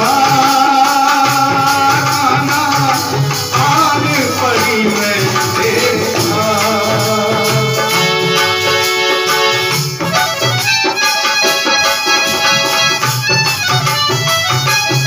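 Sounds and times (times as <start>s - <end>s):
drum beating steady rhythm: 0.0s - 15.0s
jingling hand percussion: 0.0s - 15.0s.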